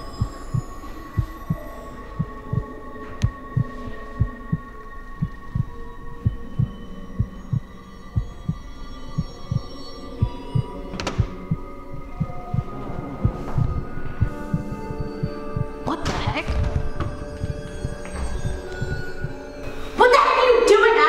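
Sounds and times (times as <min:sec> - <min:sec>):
heartbeat thumps: 0:00.2 - 0:08.6, 0:09.2 - 0:19.4.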